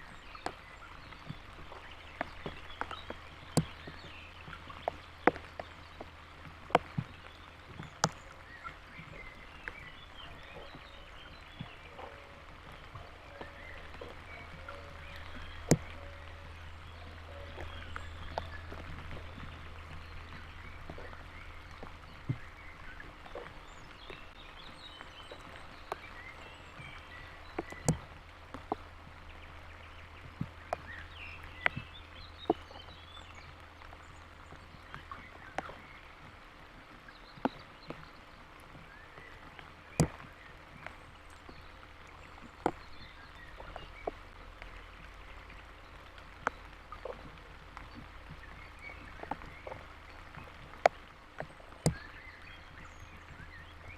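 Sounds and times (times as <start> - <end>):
low steady hum: 0.0 - 53.9
raindrops ticking on camera: 0.0 - 53.9.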